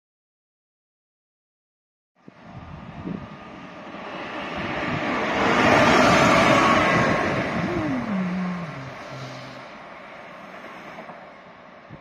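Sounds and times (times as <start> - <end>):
electric locomotive passing on rails: 2.2 - 12.0.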